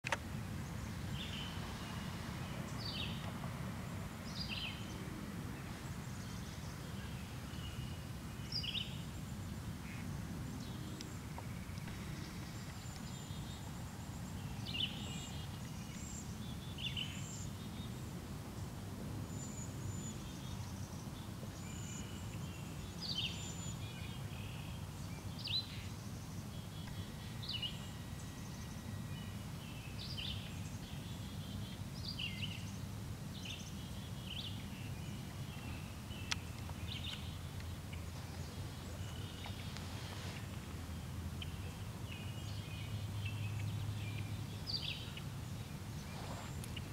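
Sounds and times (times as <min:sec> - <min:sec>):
small birds chirping: 0:00.0 - 0:03.4, 0:04.2 - 0:05.0, 0:05.6 - 0:18.6, 0:19.2 - 0:46.9.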